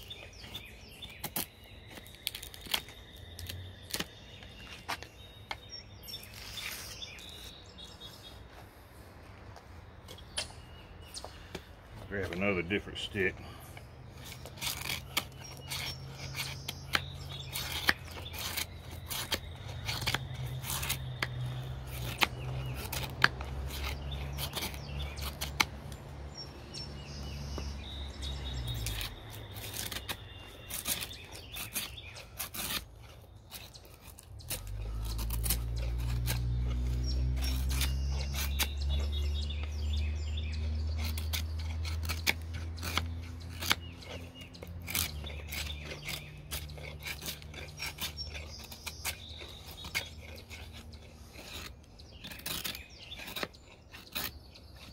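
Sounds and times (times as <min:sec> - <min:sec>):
birds chirping: 0:00.0 - 0:54.9
knife scraping wood: 0:00.0 - 0:54.9.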